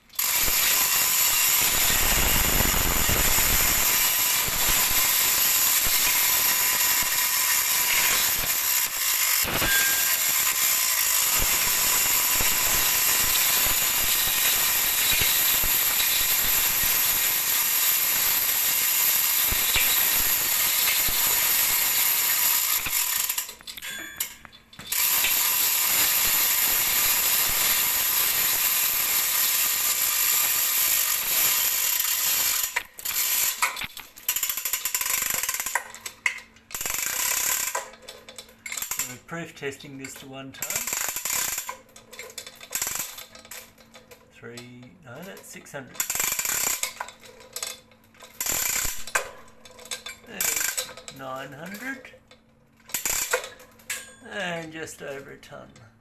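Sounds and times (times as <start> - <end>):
ratchet clicking rapidly: 0.0 - 44.2, 46.0 - 54.2.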